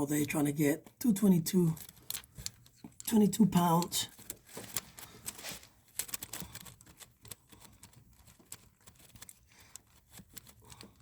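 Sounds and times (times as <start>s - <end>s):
metal parts clicking and tapping: 1.8s - 11.0s.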